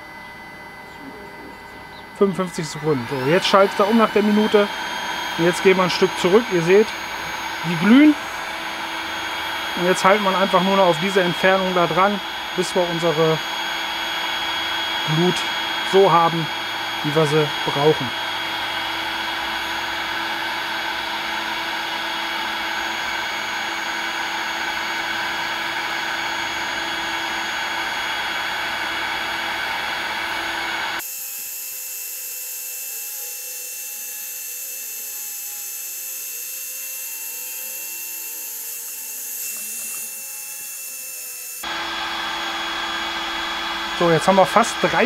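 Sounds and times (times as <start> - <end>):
fire starter blower running: 0.0 - 45.0.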